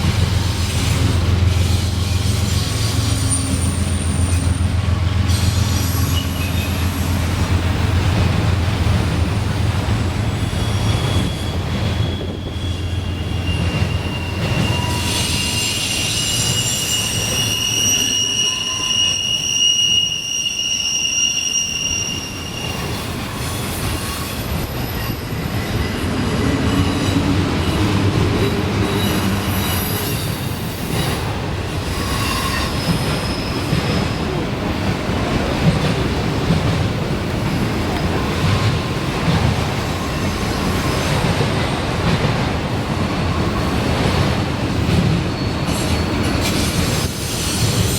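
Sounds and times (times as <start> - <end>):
train wheels squealing: 0.0 - 7.6, 10.2 - 34.5, 37.5 - 41.9, 44.9 - 47.9
freight train rumbling past: 0.0 - 47.9.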